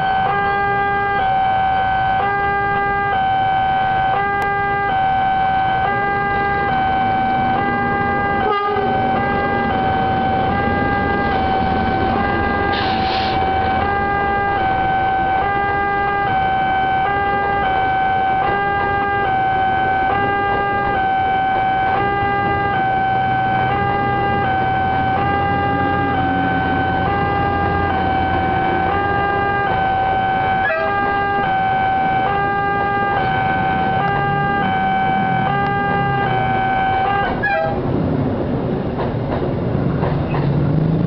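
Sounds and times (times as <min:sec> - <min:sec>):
two-tone crossing alarm: 0:00.0 - 0:37.8
train coaches rumbling past: 0:04.7 - 0:41.0.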